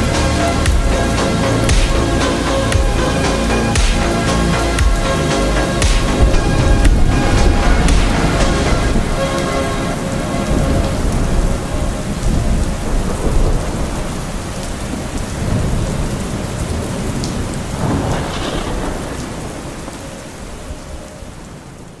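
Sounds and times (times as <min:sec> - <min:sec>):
low thunder rumbling: 0:00.0 - 0:21.5
heavy rain: 0:00.0 - 0:22.0.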